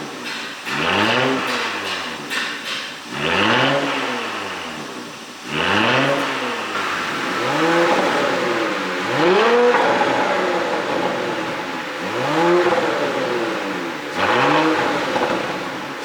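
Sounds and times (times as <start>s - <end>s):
car engine revving: 0.0s - 2.5s, 3.1s - 16.0s.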